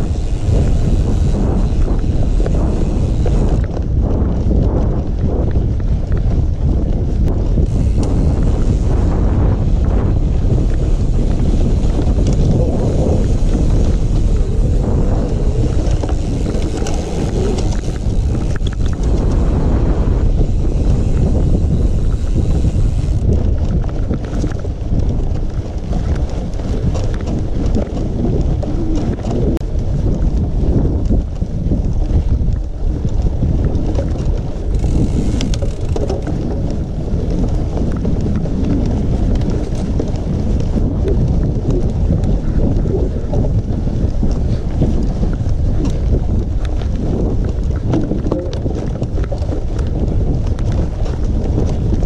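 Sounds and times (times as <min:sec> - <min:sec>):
bike clicks and rattles: 0:00.0 - 0:52.0
wind buffeting microphone: 0:00.0 - 0:52.0.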